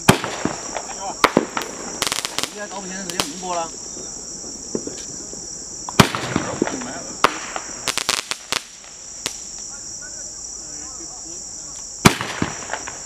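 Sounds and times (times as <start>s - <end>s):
crickets chirping: 0.0s - 13.0s
firework bangs and crackles: 0.0s - 13.0s.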